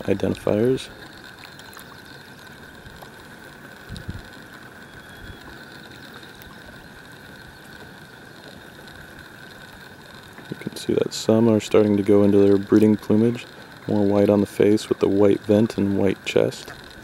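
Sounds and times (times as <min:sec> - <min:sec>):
steady background noise: 0:00.0 - 0:17.0
faint ticks: 0:01.1 - 0:17.0.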